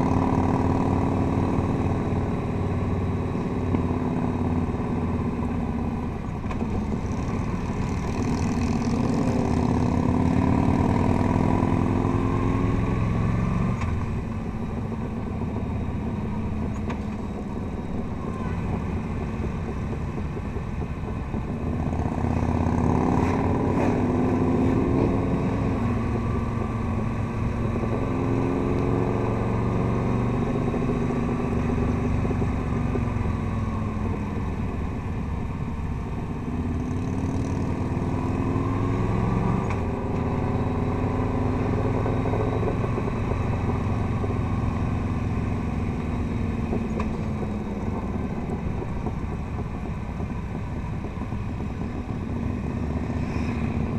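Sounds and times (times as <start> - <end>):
motorcycle engine: 0.0 - 53.9.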